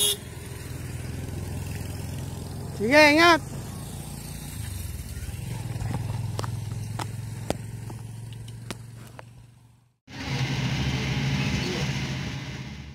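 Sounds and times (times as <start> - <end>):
motorcycle engine running: 0.0 - 12.3.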